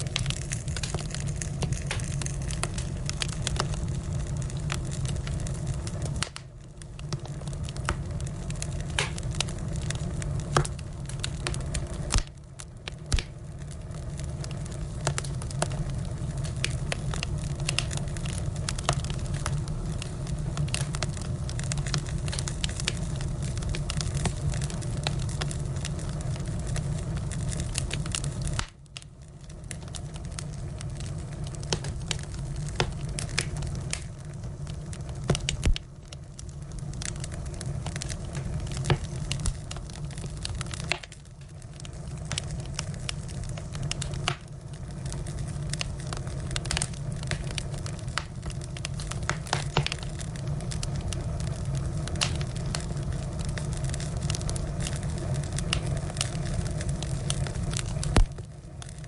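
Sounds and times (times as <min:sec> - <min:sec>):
firewood crackling and popping: 0:00.0 - 0:59.0
low rush of flames: 0:00.0 - 0:59.0.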